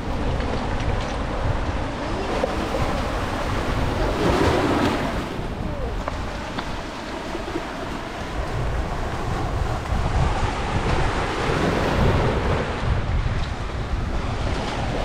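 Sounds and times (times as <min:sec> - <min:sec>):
sea waves breaking: 0:00.0 - 0:15.0
wind buffeting microphone: 0:00.0 - 0:15.0.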